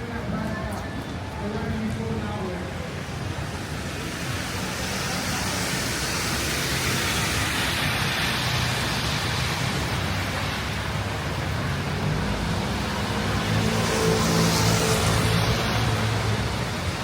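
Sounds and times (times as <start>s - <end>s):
road traffic hum: 0.0s - 17.0s
heavy rain hissing: 2.7s - 17.0s.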